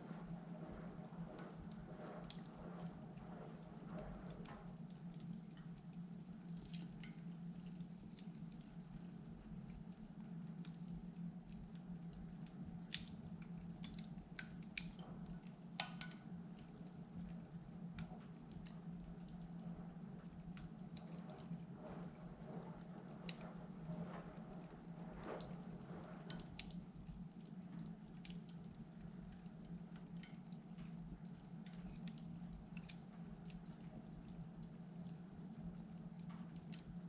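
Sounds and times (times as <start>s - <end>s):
firewood crackling and popping: 0.0s - 37.0s
steady low hum: 0.0s - 37.0s.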